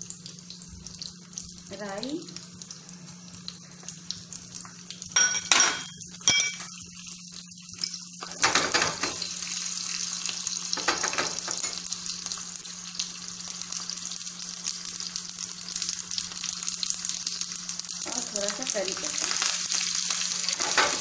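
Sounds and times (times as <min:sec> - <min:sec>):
spices sizzling in hot oil: 0:00.0 - 0:21.0.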